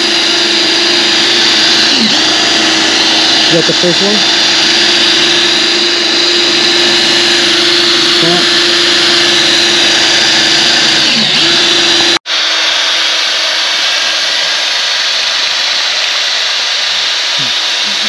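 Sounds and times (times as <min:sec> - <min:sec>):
pump motor whine: 0:00.0 - 0:18.0.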